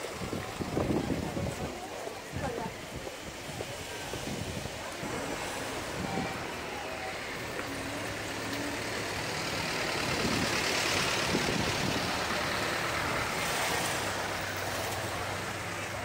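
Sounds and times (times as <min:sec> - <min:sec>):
motor vehicle running: 0:00.0 - 0:16.0.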